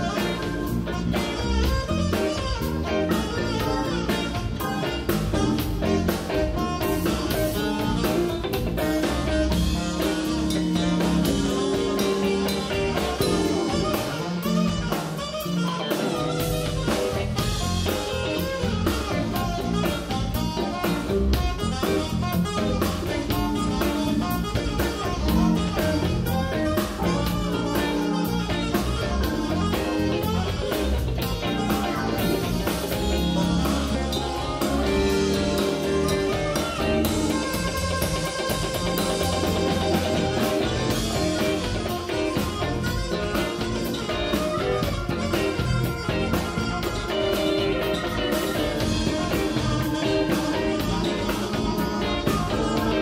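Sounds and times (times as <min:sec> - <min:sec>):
live band soul-jazz instrumental: 0:00.0 - 0:53.0.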